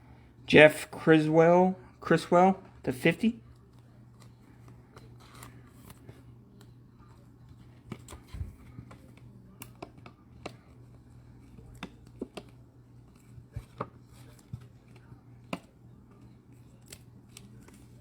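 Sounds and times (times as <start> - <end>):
cards ticking and rustling: 3.0 - 18.0.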